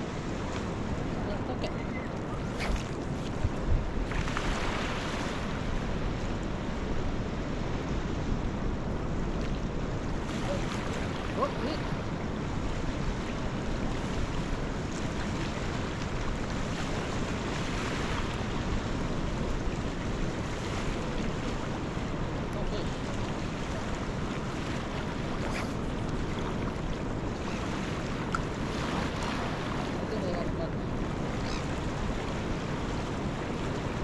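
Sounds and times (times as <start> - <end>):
small waves washing on shore: 0.0 - 34.0
wind blowing over microphone: 0.0 - 34.0.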